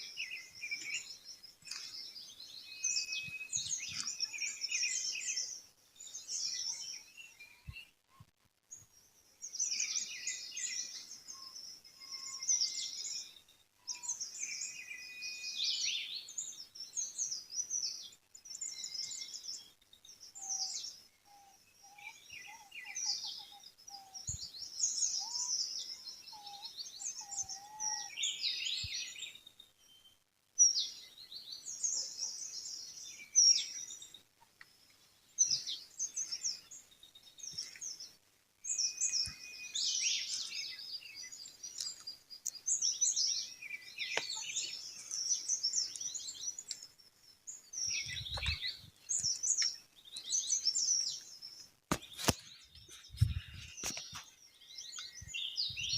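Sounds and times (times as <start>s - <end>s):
songbirds chirping and singing: 0.0s - 55.9s.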